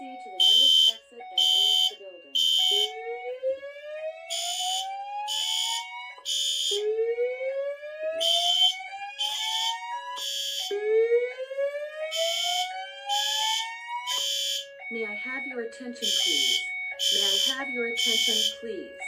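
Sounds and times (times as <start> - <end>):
fire alarm horn blasts: 0.0 - 19.0.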